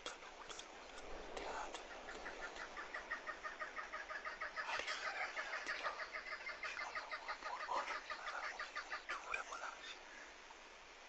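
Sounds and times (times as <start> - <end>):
birds chattering: 0.0 - 10.4.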